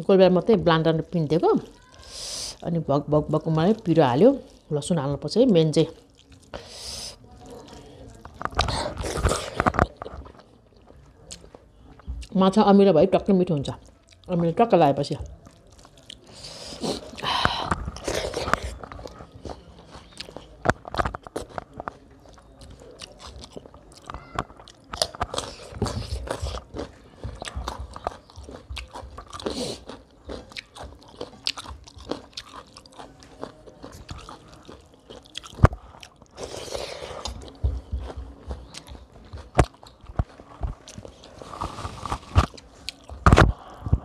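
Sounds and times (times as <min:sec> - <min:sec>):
chewing and mouth noises: 0:05.8 - 0:12.4, 0:13.7 - 0:14.4, 0:15.1 - 0:44.0.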